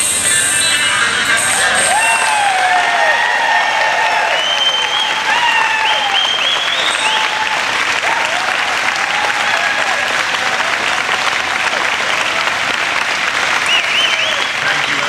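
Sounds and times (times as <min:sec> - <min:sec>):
high cheering calls: 0:01.3 - 0:15.0
audience applauding: 0:01.6 - 0:15.0.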